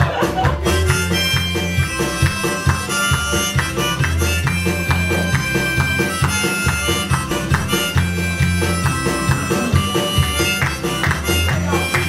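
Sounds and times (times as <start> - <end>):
harmonica wailing: 0.0 - 12.0
keyboard bass line: 0.0 - 12.0
strummed acoustic guitar: 0.0 - 12.0.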